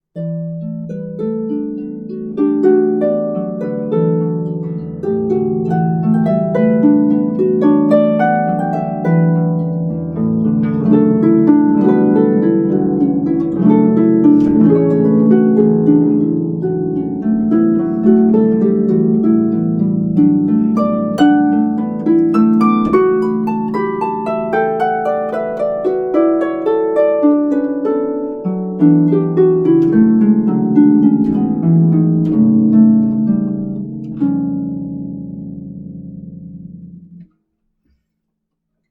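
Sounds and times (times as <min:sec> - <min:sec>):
harp playing plucked notes: 0:00.1 - 0:37.3.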